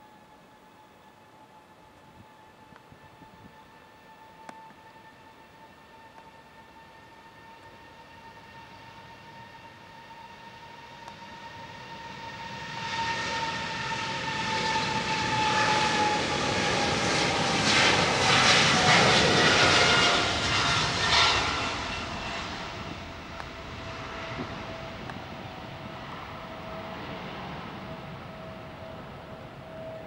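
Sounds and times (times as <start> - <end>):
jet engine whine falling: 0.0 - 30.0
jet airliner passing: 0.6 - 30.0.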